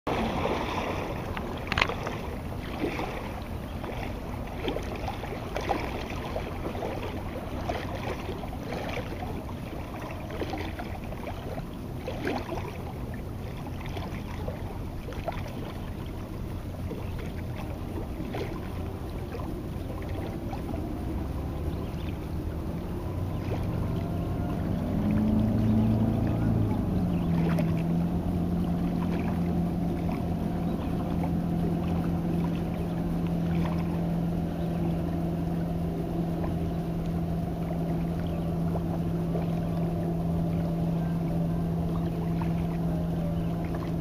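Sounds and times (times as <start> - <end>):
boat engine rumble: 0.0 - 44.0
water lapping and splashing: 0.0 - 44.0.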